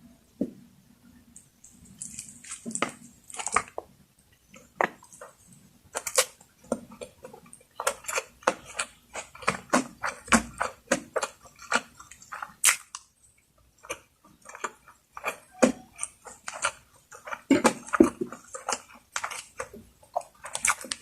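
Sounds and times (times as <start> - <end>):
wet eating clicks and smacks: 1.3 - 21.0.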